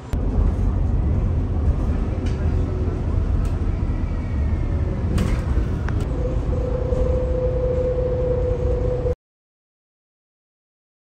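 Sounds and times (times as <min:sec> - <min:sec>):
bus engine and road rumble: 0:00.0 - 0:09.2.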